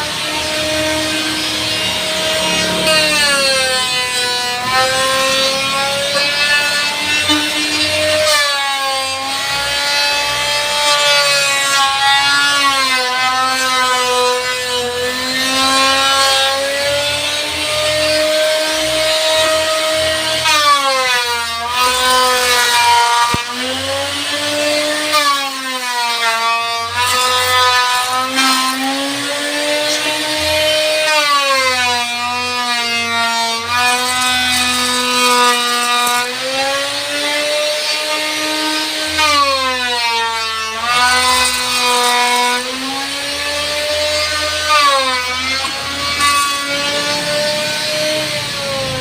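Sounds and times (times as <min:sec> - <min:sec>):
power tool cutting wood: 0:00.0 - 0:49.0.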